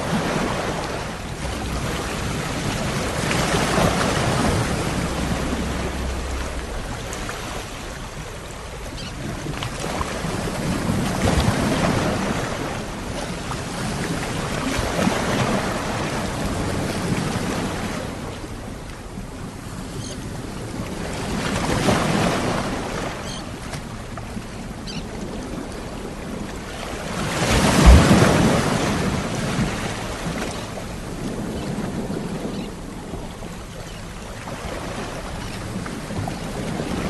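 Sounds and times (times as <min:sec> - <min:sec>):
sea waves washing onto shore: 0:00.0 - 0:37.0.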